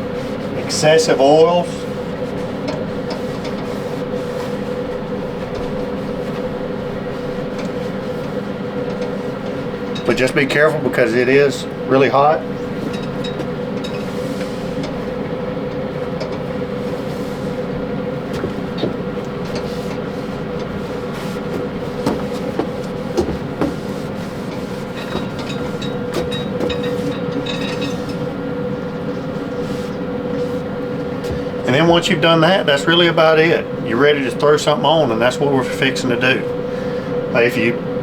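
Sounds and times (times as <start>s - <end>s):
smoker fan hum: 0.0s - 38.0s.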